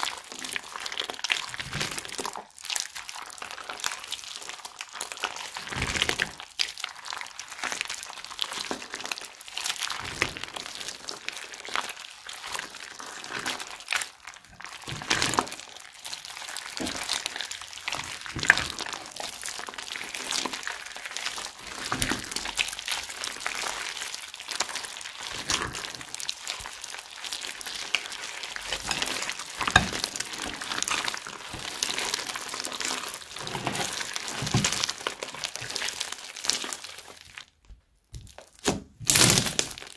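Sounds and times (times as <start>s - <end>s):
crunchy slime crinkling and crackling: 0.0s - 39.9s.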